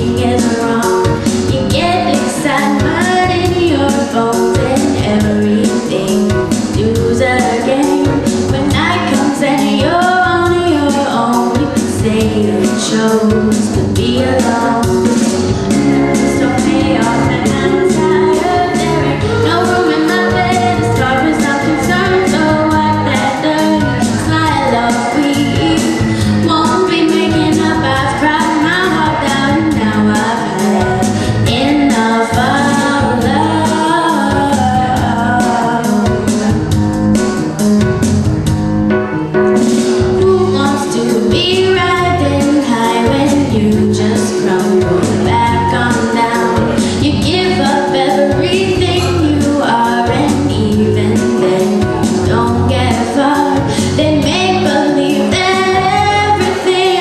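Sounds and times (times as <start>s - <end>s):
woman singing pop song: 0.0s - 36.7s, 40.0s - 57.0s
accompaniment with steady beat: 0.0s - 57.0s.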